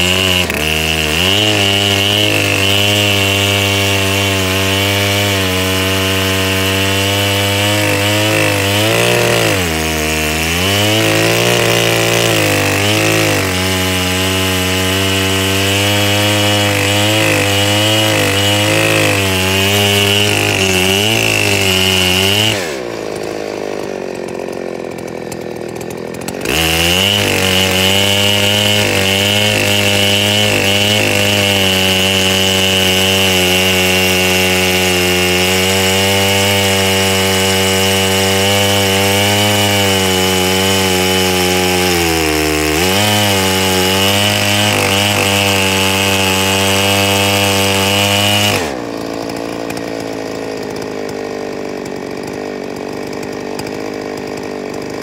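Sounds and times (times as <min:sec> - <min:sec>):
chainsaw cutting a log: 0:00.0 - 0:55.0.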